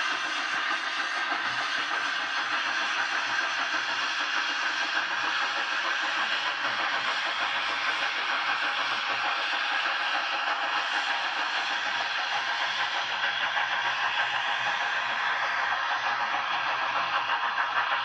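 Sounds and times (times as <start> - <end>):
train coaches rolling on track: 0.0 - 18.0.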